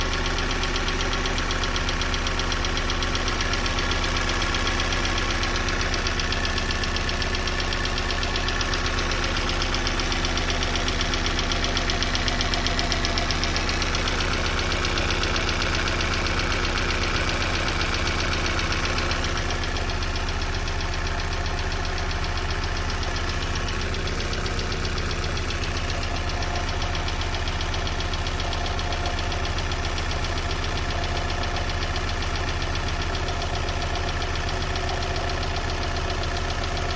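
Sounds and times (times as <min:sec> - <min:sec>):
petrol engine idling with knock: 0:00.0 - 0:36.9.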